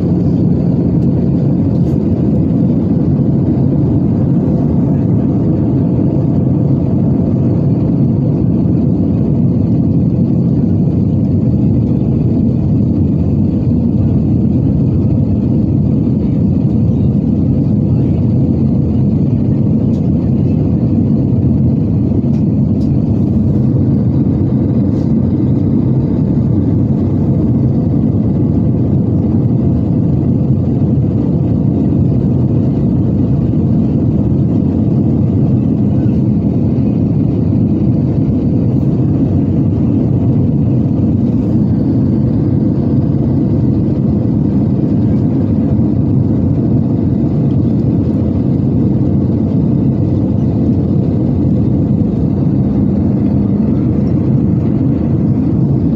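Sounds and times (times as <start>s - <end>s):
aircraft cabin engine rumble: 0.0s - 55.9s.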